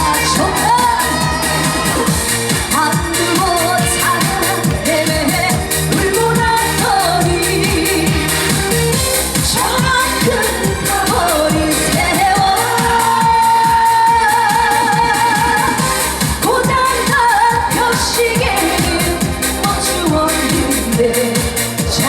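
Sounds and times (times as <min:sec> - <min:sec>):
amplified dance backing music: 0:00.0 - 0:22.0
woman singing with vibrato: 0:00.0 - 0:22.0.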